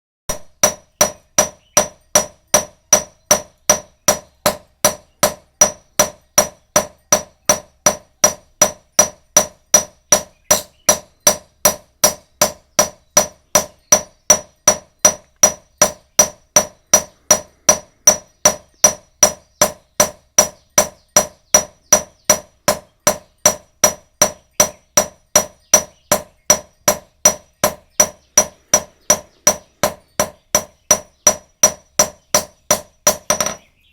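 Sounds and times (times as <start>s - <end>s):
hammer striking iron on anvil: 0.3s - 33.7s.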